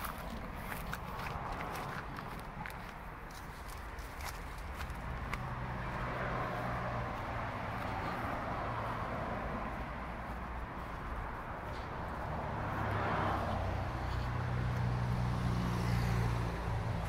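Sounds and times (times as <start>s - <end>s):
distant engine hum: 0.0s - 17.0s.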